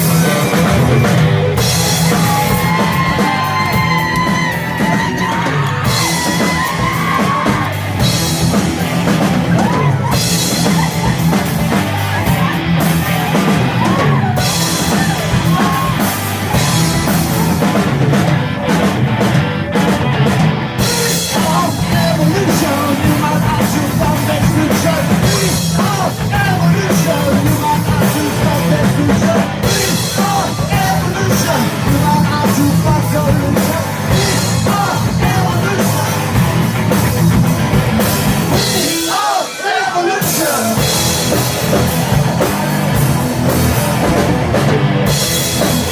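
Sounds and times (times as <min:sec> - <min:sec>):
live rock band playing: 0:00.0 - 0:45.9
shouted vocals: 0:00.0 - 0:45.9.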